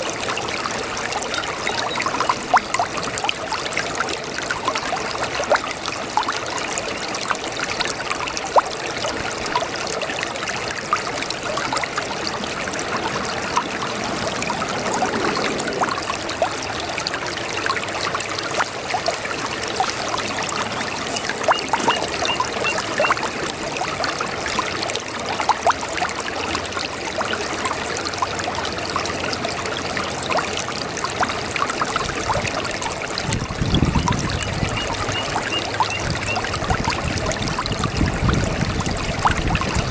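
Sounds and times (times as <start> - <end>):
babbling brook: 0.0 - 39.9
deep water gurgle: 0.0 - 39.9.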